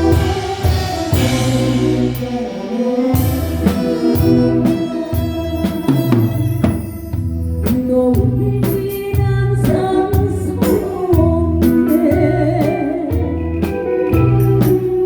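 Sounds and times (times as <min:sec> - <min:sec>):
bass: 0:00.0 - 0:15.0
drum kit beat: 0:00.0 - 0:15.0
guitar: 0:00.0 - 0:15.0
keyboards: 0:00.0 - 0:15.0
person singing with vibrato: 0:00.0 - 0:15.0.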